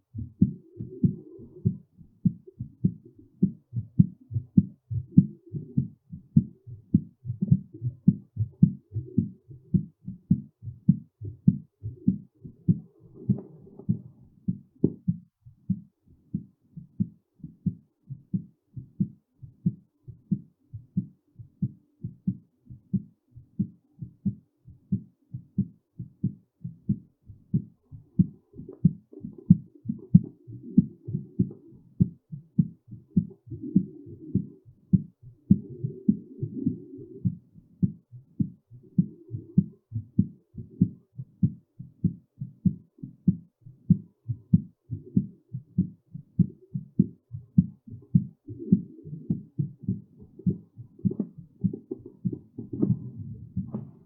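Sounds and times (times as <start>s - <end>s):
heartbeat: 0.0s - 54.0s.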